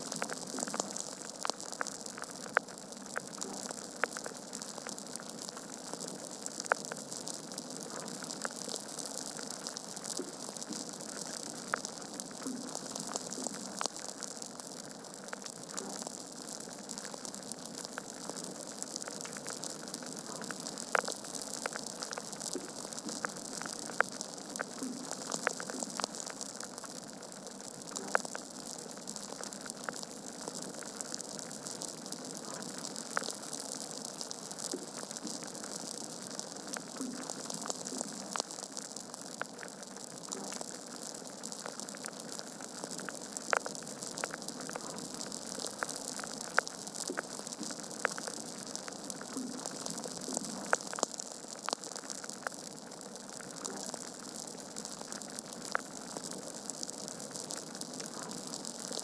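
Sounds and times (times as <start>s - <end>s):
logs crackling and popping: 0.0s - 59.0s.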